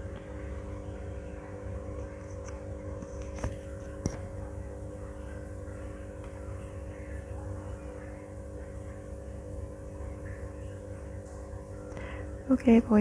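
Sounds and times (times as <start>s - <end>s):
laptop cooling fan humming: 0.0s - 13.0s.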